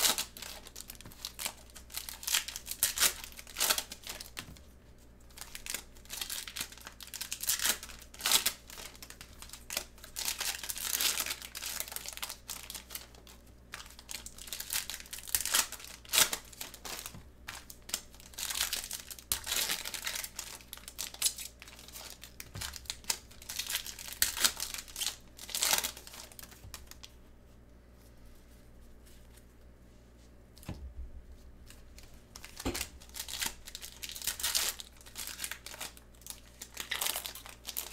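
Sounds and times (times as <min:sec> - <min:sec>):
foil wrapper crinkling and tearing: 0:00.0 - 0:04.6, 0:05.3 - 0:27.1, 0:31.6 - 0:37.9.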